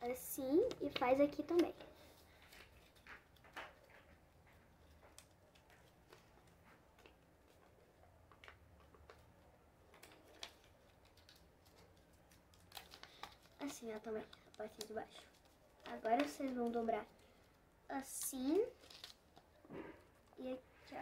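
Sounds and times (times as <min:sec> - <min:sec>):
paper being folded and creased: 0:00.5 - 0:19.6.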